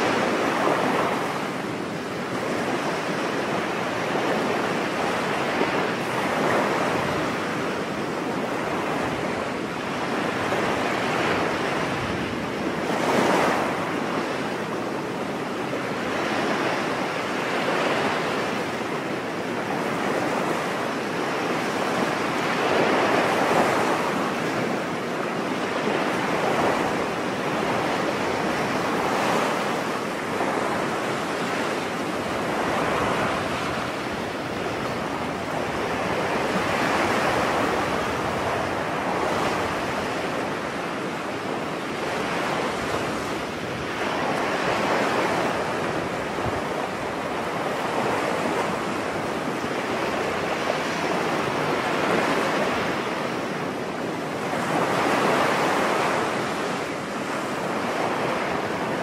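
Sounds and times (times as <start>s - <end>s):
small waves washing onto beach: 0.0s - 59.0s.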